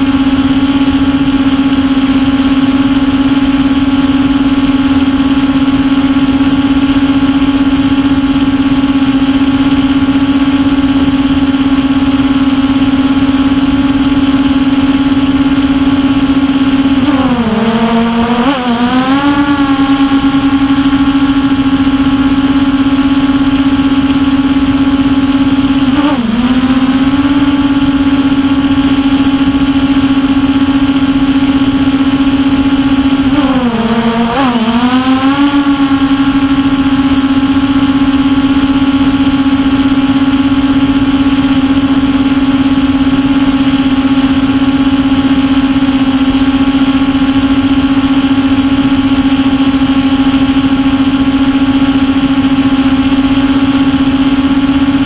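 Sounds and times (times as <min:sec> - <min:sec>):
quadcopter propellers humming: 0:00.0 - 0:55.0.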